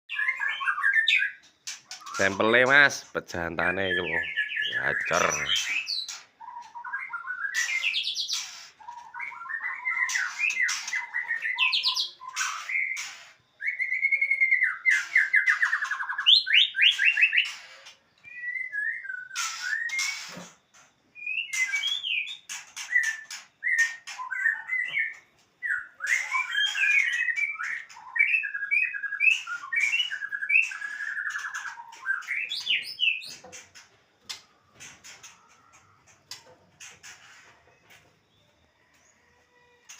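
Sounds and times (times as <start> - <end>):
songbird singing trills and whistles: 0.1 - 2.6, 3.3 - 34.9.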